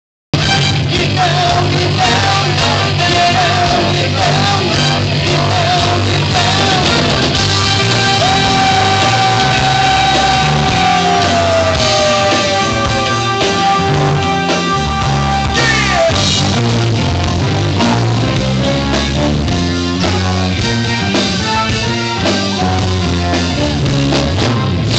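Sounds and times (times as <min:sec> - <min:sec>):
live rock band playing: 0:00.3 - 0:24.9.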